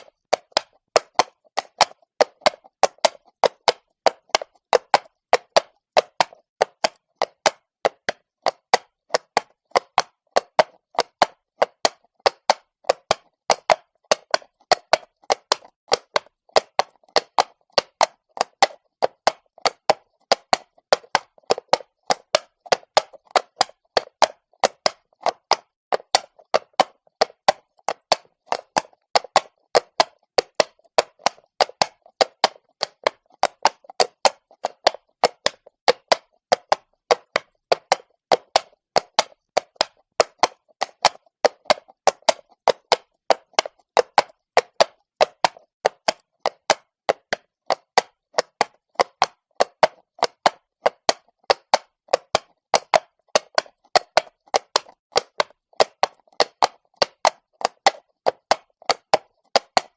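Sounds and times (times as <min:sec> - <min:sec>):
horse hooves clopping on stone: 0:00.0 - 0:59.9.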